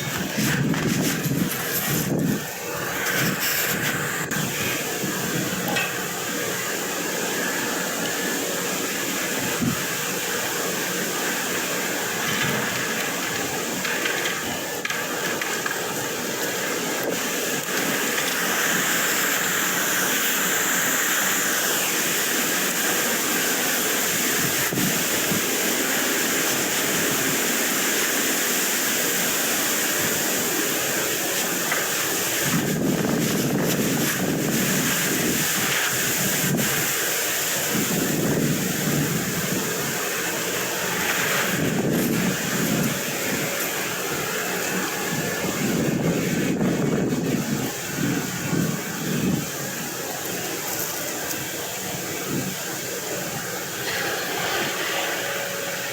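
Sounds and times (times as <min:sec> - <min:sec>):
high whine: 0:00.0 - 0:55.9
wind blowing across microphone: 0:00.0 - 0:55.9.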